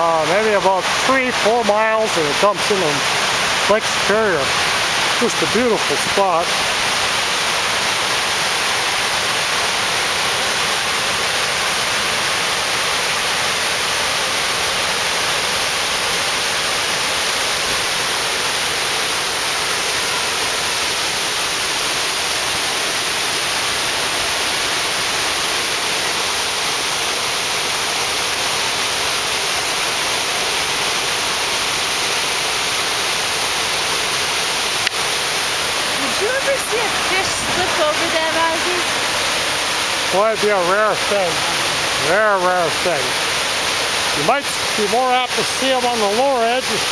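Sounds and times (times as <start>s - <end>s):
river water rushing over a drop: 0.0s - 46.9s.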